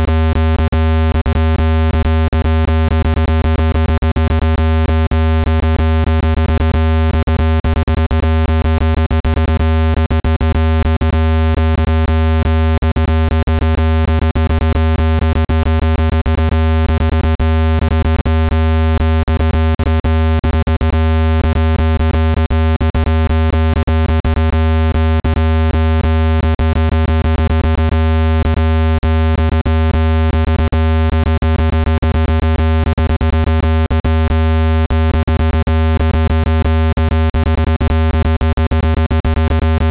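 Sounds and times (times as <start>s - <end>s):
low-pitched electronic hum: 0.0s - 39.9s.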